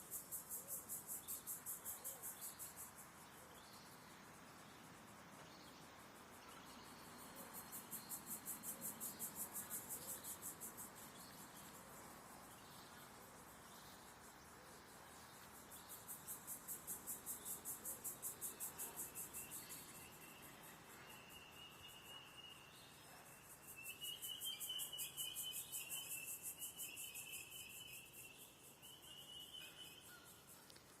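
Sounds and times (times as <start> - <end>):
insect chirring: 0.0 - 31.0.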